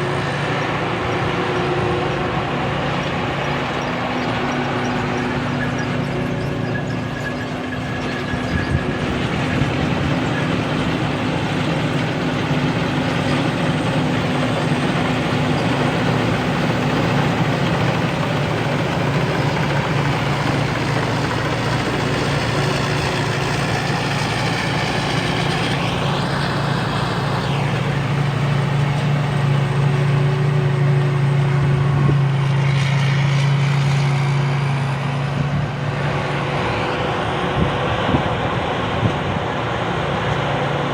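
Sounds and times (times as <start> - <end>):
harvester diesel engine running: 0.0 - 40.9.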